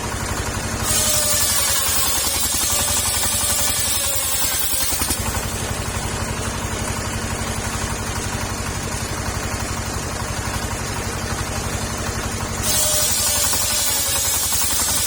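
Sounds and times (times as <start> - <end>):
petrol engine running sawmill: 0.0 - 15.0.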